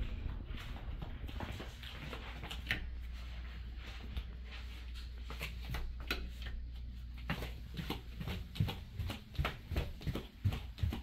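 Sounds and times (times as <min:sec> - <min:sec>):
footsteps down stairs: 0:00.0 - 0:11.0
steady low hum: 0:00.0 - 0:11.0.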